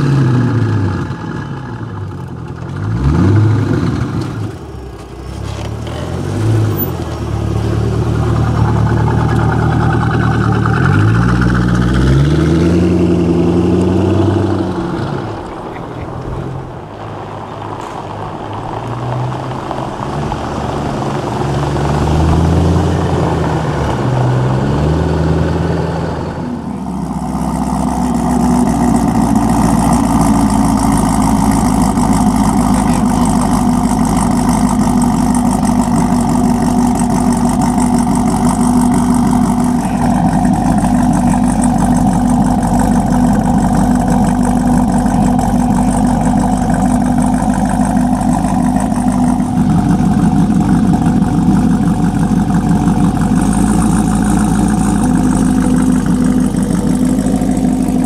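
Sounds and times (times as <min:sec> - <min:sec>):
car engine idling: 0:00.0 - 0:58.0
engine rising and falling in pitch: 0:00.0 - 0:58.0.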